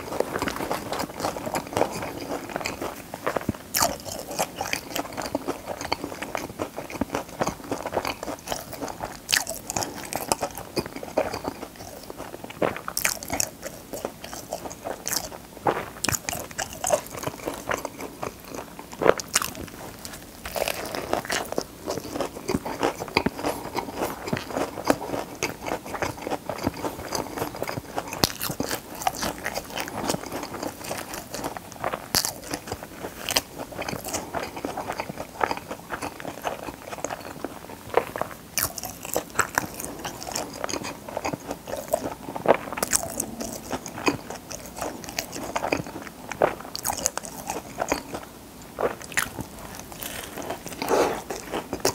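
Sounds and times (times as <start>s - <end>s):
crunching fried chicken burger: 0.0s - 51.9s
wet chewing: 0.0s - 51.9s.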